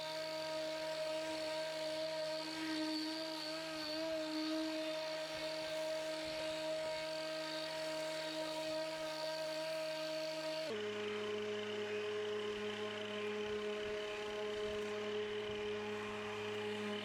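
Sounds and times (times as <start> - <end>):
electric lawnmower running: 0.0 - 17.0.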